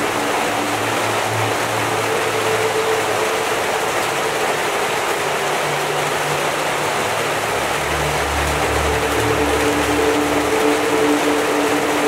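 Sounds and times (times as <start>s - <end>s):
heavy rain on water and leaves: 0.0s - 12.0s.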